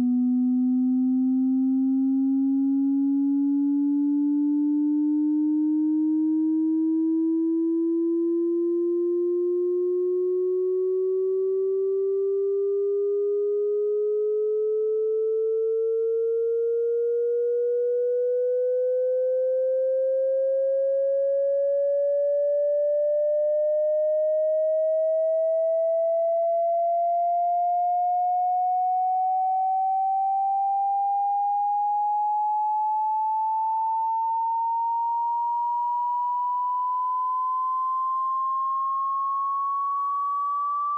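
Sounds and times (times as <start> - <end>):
rising sine tone sweep: 0.0 - 40.9.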